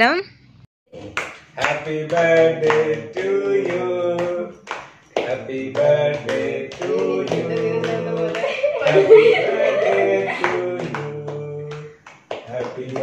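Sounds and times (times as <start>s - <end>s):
group singing a celebration song: 0.9s - 13.0s
people clapping in rhythm: 1.0s - 13.0s.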